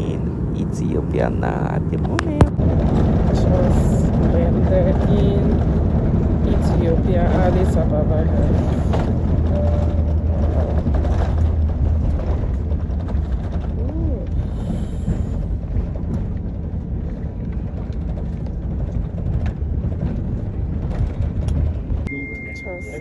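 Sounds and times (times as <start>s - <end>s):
airliner engines rumbling: 0.0s - 23.0s
wheels rolling on runway: 2.5s - 22.1s.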